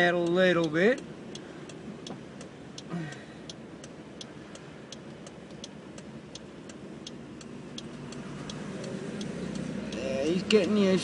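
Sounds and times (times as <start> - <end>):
low road noise: 0.0 - 11.0
steady ticking in car: 0.0 - 11.0.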